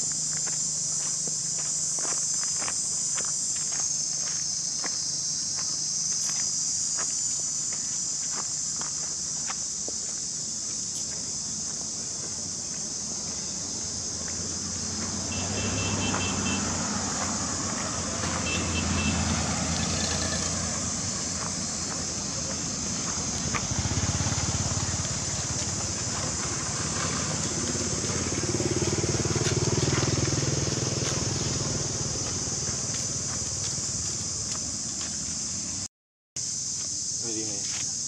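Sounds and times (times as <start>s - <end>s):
motor vehicle rumble: 0.0s - 35.9s
insects droning: 0.0s - 38.0s.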